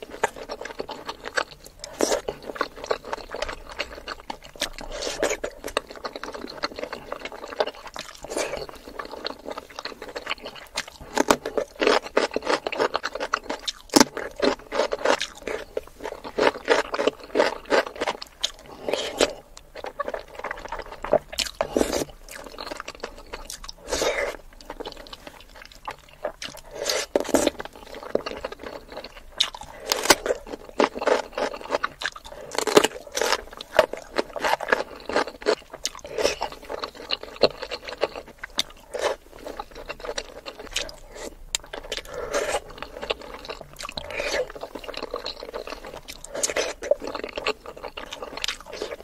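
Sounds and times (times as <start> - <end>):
wet chewing and crunching: 0.0 - 49.0.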